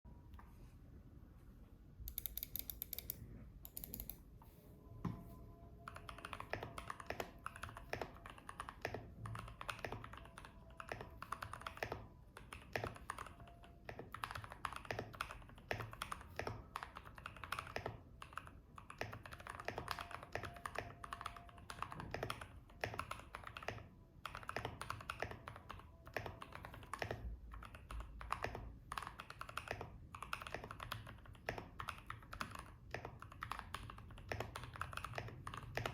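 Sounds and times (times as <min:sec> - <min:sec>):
mechanical keyboard typing: 0:02.1 - 0:04.2, 0:05.8 - 0:35.9.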